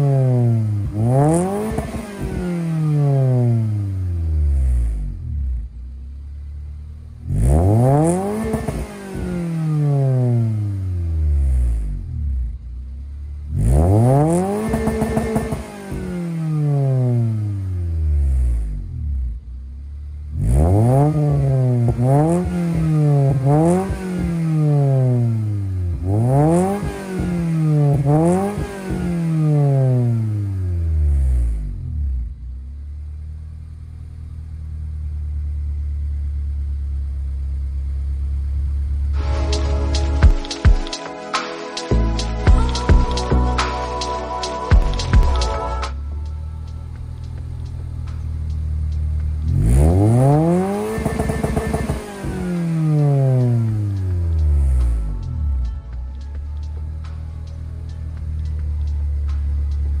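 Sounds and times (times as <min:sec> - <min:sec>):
car engine revving: 0:00.0 - 1:00.0
engine idling: 0:03.2 - 0:41.0, 0:41.9 - 1:00.0.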